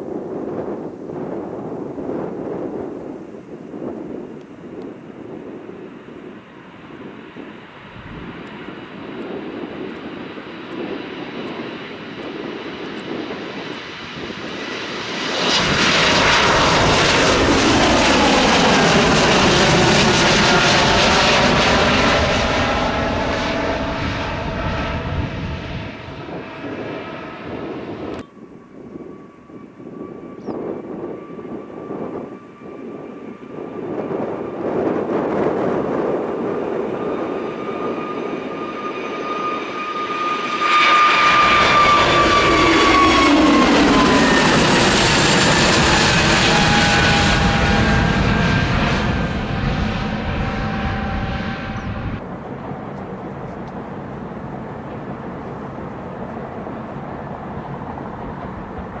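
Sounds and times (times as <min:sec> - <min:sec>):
aircraft engine whine: 0:00.0 - 0:59.0
jet airliner passing: 0:00.0 - 0:59.0.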